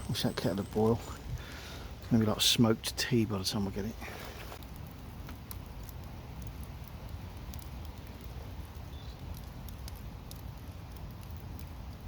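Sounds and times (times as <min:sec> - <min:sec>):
charcoal fire crackling: 0:00.0 - 0:12.0.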